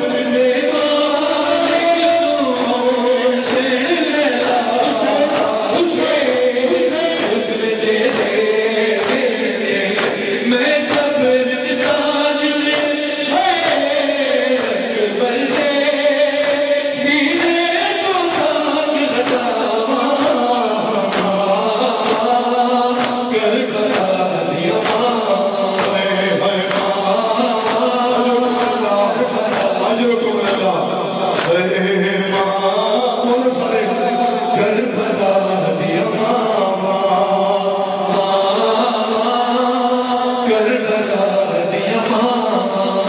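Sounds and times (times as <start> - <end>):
chorus of voices: 0.0 - 43.0
man chanting: 0.0 - 43.0.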